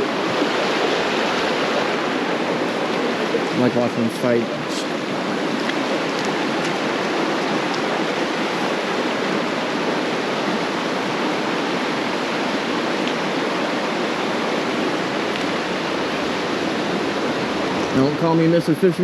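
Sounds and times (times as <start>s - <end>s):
creek water rushing over rocks: 0.0s - 19.0s.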